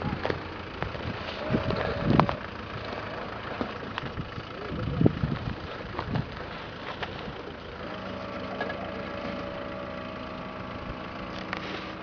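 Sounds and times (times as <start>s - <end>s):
engine running at steady revs: 0.0s - 12.0s.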